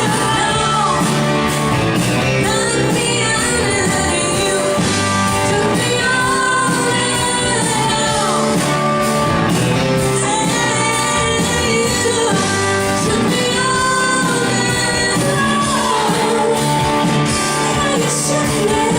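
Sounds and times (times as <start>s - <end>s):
lead vocal singing: 0.0s - 9.0s, 9.8s - 18.9s
live rock band playing: 0.0s - 18.9s.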